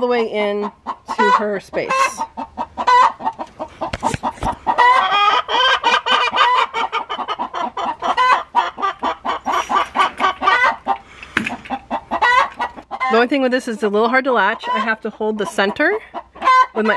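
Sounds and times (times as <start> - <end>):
chickens clucking and cackling: 0.0 - 16.9.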